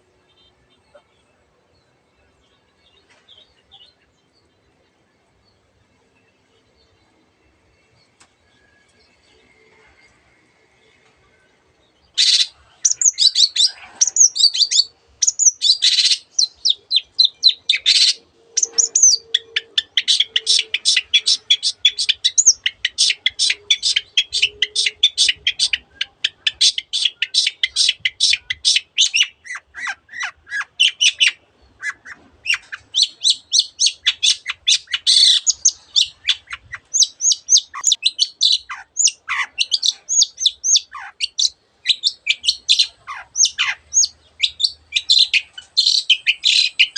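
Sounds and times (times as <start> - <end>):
shrike singing chatter: 6.2 - 46.9.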